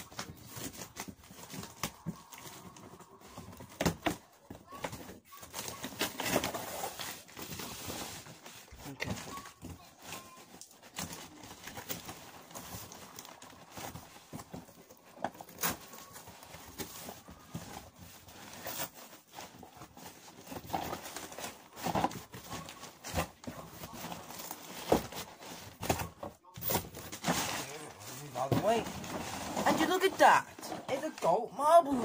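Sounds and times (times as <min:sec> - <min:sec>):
cardboard rustling and scraping: 0:00.0 - 0:32.0.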